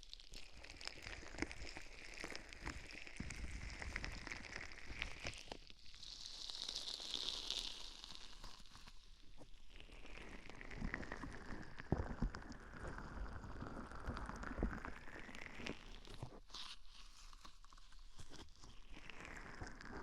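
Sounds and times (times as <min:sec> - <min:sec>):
scratching and rustling at microphone: 0:00.4 - 0:20.0.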